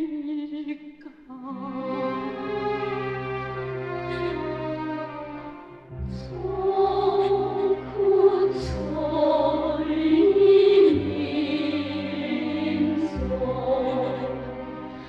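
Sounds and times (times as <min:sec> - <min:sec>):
orchestral accompaniment: 0:01.6 - 0:15.0
choir singing held notes: 0:01.8 - 0:15.0.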